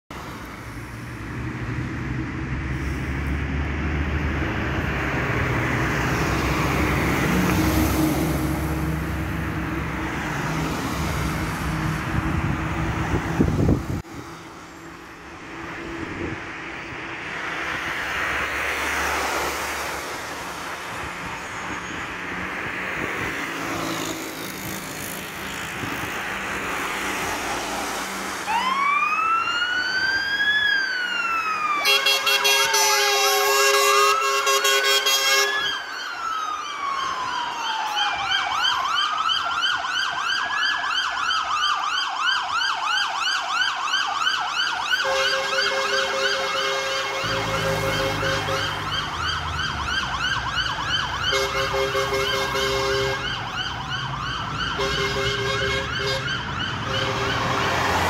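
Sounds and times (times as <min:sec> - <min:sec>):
cars passing: 0:00.1 - 0:58.0.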